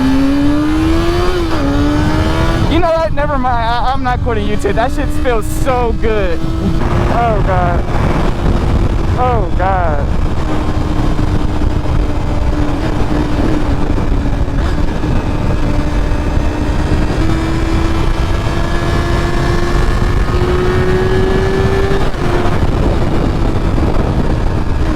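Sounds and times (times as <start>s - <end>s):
motorcycle engine running: 0.0s - 24.9s
wind on microphone: 0.0s - 24.9s.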